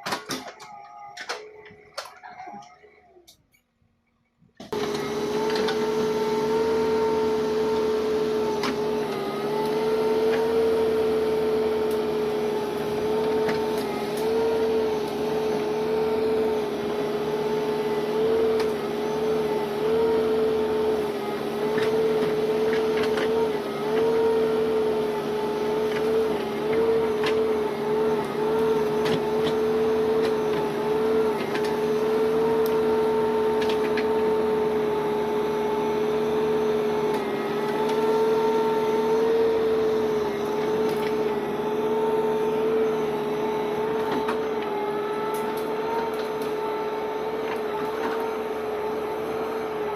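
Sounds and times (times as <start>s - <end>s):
motor whine: 4.5s - 49.9s.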